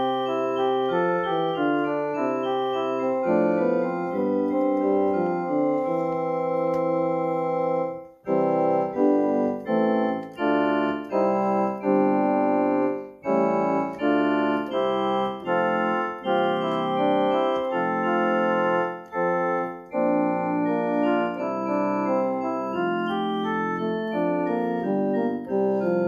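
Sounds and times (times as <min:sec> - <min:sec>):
keyboard playing slow chords: 0:00.0 - 0:26.0.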